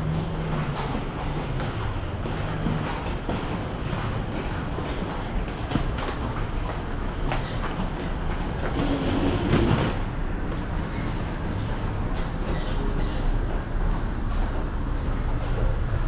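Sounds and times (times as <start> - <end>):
pallets clacking: 0.0 - 13.6
moving walkway rumble: 0.0 - 16.0.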